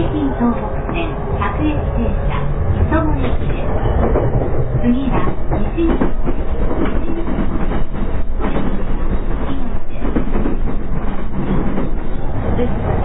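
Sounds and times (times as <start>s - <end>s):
train wheels rumbling on rails: 0.0s - 13.0s
rail-joint clatter: 0.1s - 13.0s.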